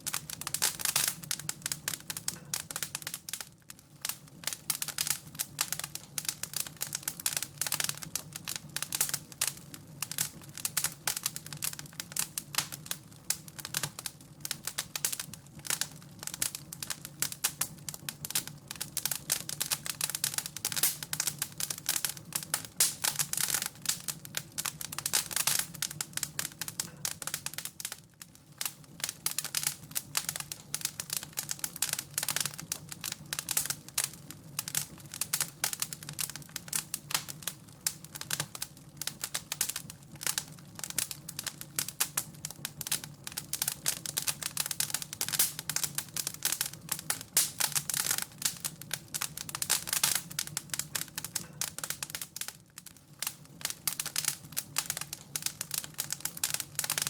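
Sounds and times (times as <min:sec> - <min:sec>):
pops and snaps of fire: 0:00.0 - 0:57.0
wood fire crackling: 0:00.0 - 0:57.0.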